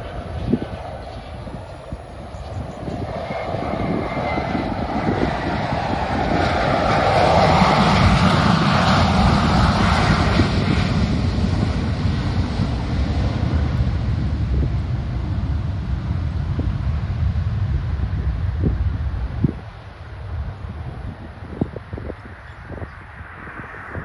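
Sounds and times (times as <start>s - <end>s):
jet airliner flying over: 0.0s - 24.0s
wind rumble on microphone: 0.0s - 24.0s.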